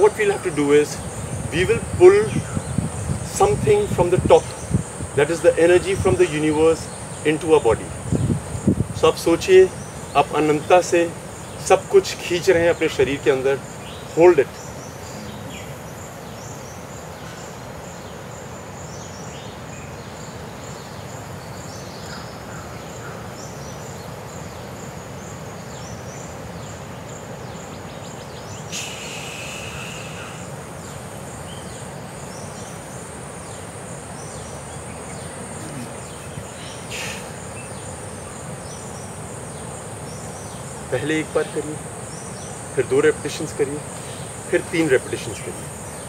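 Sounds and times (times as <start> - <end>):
insects chirping: 0.0 - 46.0
outdoor background hiss: 0.0 - 46.0.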